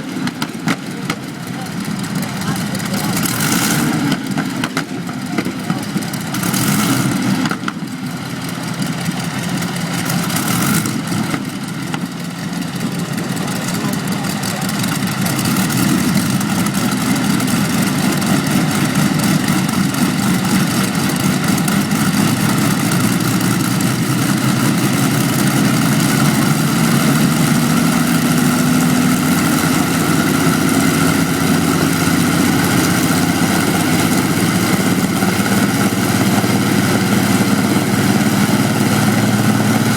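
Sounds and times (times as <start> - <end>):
aeroplane engine running: 0.0 - 39.9.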